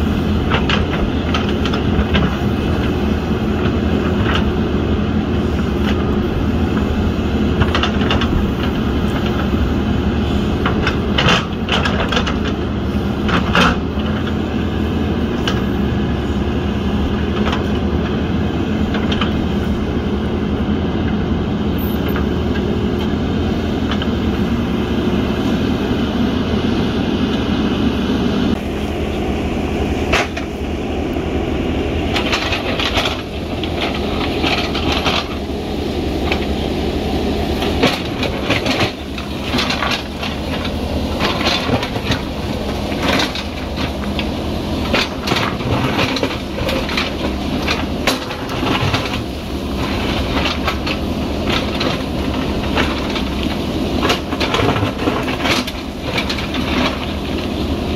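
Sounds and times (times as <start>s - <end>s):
diesel engine under load: 0.0s - 57.9s.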